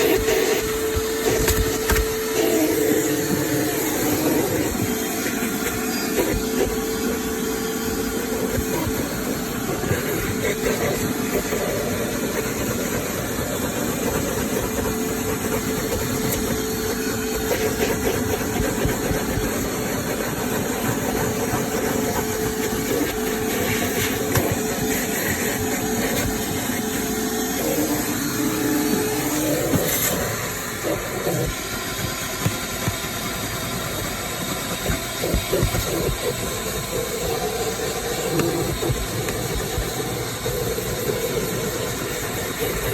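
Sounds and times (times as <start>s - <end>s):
wet dry vacuum running: 0.0s - 42.9s.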